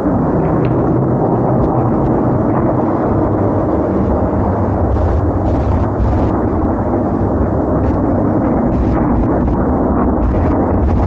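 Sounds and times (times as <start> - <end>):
deep rumble from sky: 0.0 - 11.0.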